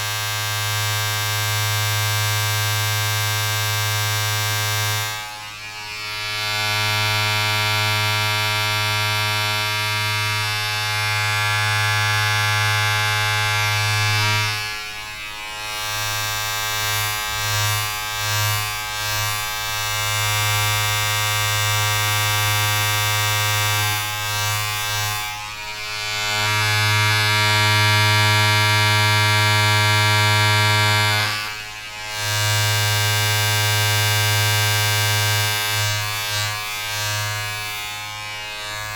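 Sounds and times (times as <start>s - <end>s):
electric buzz of vibrating appliance: 0.0s - 38.9s.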